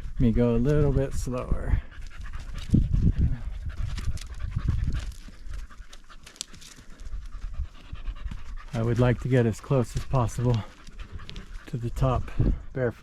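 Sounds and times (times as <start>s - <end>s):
heavy panting: 0.0s - 13.0s
rock crunching underfoot: 0.6s - 12.2s.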